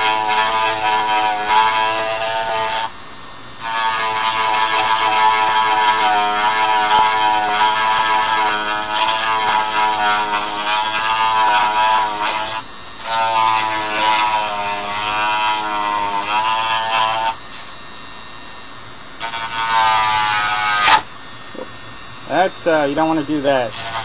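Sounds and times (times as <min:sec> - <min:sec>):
rotary tool trimming plastic: 0:00.0 - 0:02.9, 0:03.6 - 0:17.7, 0:19.2 - 0:21.1, 0:23.6 - 0:24.0.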